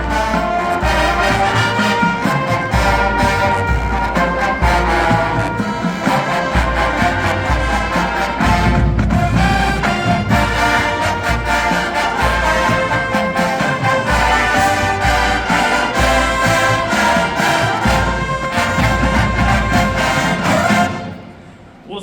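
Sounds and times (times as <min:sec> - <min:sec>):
brass: 0:00.0 - 0:21.8
drums: 0:00.0 - 0:21.8
tubas: 0:00.0 - 0:21.8.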